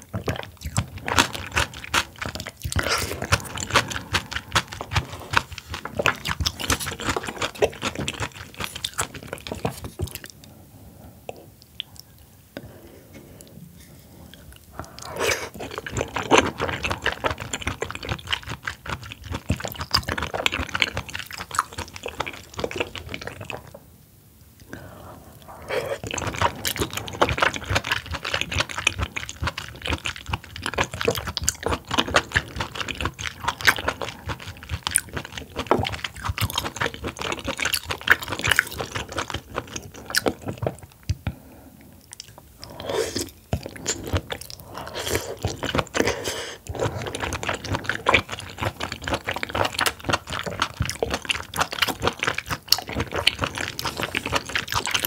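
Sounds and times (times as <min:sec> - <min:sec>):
wet chewing with mouth smacks: 0:00.0 - 0:10.4, 0:14.3 - 0:23.8, 0:25.4 - 0:41.4, 0:42.0 - 0:55.0.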